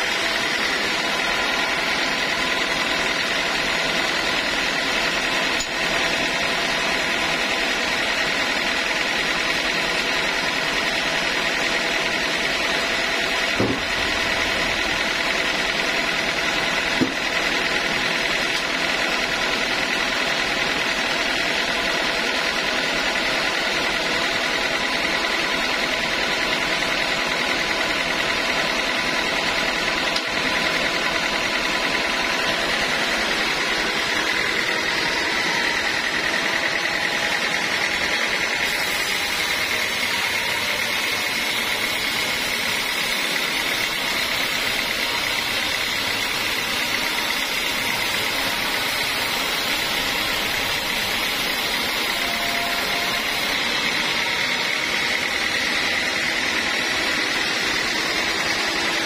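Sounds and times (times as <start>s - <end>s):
band saw cutting wood: 0.0s - 59.0s.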